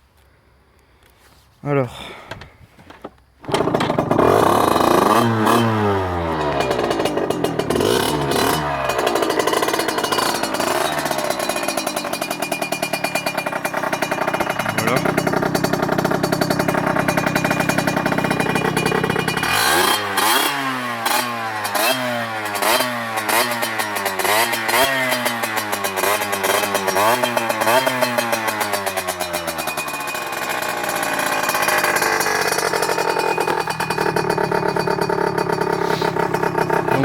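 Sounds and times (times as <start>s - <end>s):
motorcycle engine idling and revving: 3.0s - 37.0s.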